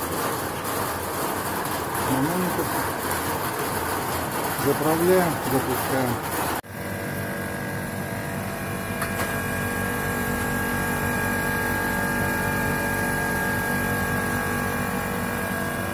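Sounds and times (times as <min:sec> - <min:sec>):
refrigeration compressor humming: 0:00.0 - 0:15.9.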